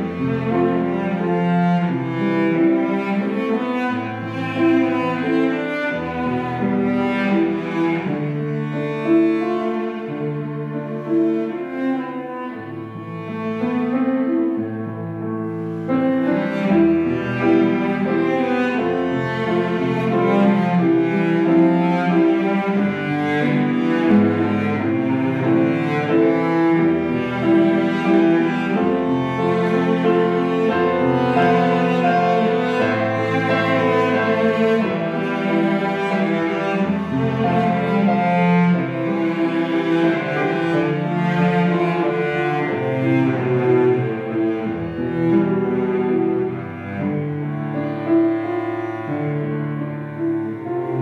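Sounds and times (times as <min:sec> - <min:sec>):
cello long held notes: 0:00.0 - 0:51.0
piano accompaniment: 0:00.0 - 0:51.0.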